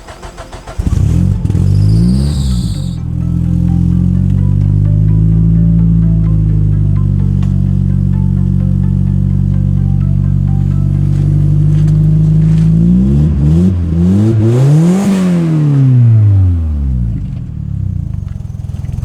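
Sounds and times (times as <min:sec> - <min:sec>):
diesel engine idling and revving: 0:00.0 - 0:19.0.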